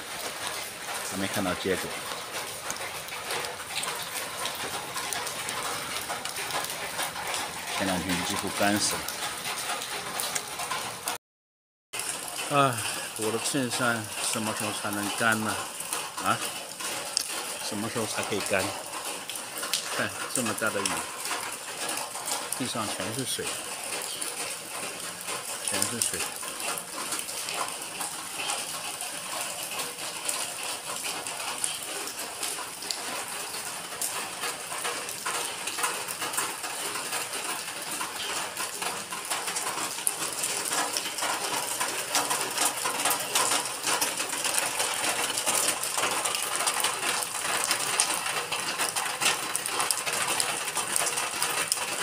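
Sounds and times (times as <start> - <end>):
heavy rain falling: 0.0 - 11.2, 12.0 - 52.0
raindrops ticking on surfaces: 0.0 - 11.2, 11.9 - 52.0.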